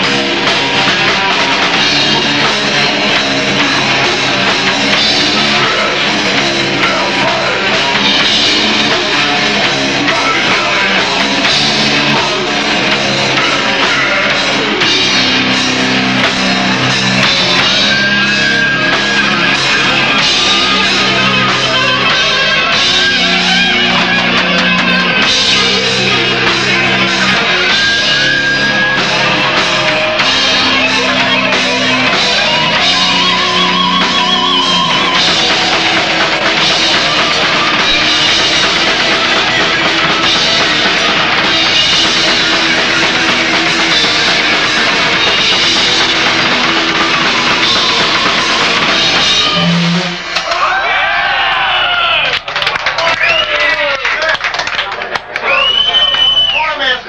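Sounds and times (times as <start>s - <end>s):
death metal band playing: 0.0s - 53.9s.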